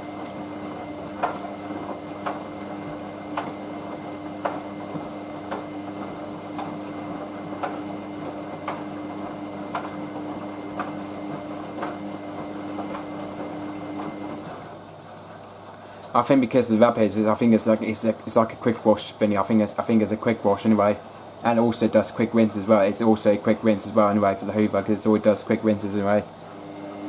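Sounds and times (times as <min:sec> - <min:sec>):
washing machine humming: 0:00.0 - 0:27.0.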